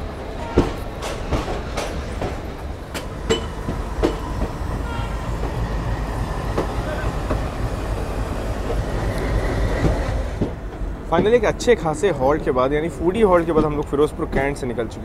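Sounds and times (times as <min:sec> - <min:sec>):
low train rumble: 0:00.0 - 0:15.0
train wheels knocking over rail joints: 0:00.4 - 0:14.9.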